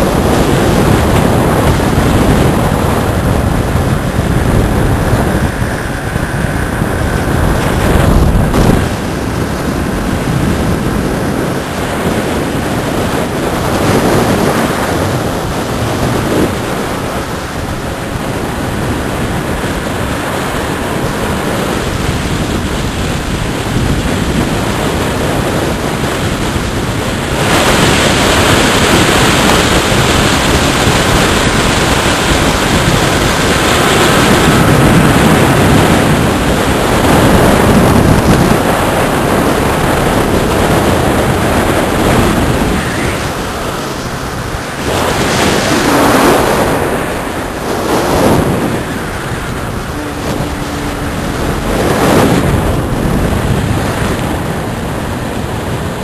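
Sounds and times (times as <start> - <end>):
loud steady rushing noise: 0.0 - 56.0.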